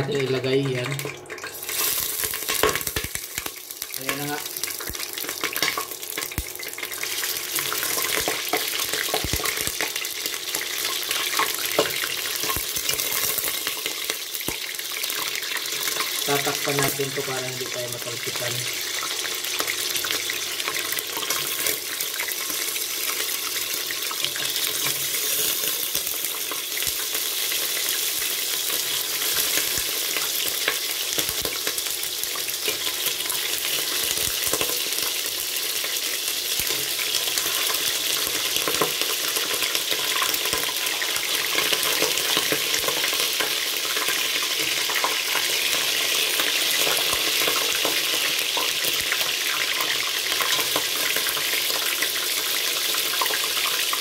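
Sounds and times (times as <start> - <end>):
oil crackling spatter: 0.0 - 54.0
pork sizzling in hot oil: 0.0 - 54.0.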